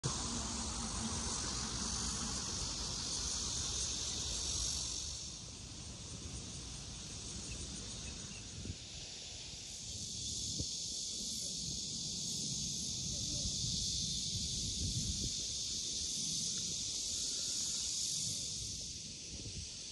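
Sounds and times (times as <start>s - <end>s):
insects chirring: 0.0s - 19.9s.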